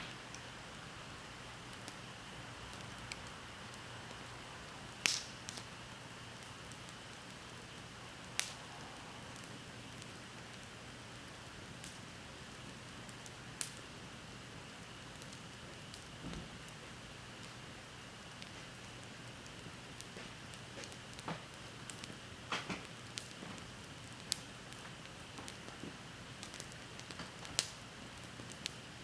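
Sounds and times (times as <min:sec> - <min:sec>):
bonfire hissing: 0:00.0 - 0:29.0
fire crackling pops: 0:00.0 - 0:29.0.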